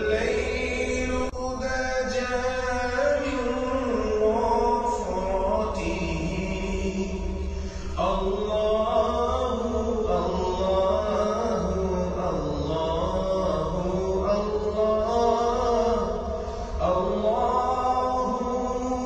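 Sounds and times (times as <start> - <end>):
person chanting melodic recitation: 0.0 - 19.0.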